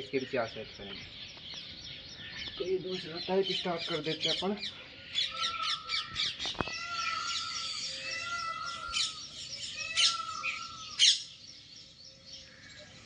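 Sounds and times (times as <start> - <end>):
birds high sharp chirps: 0.0 - 13.0.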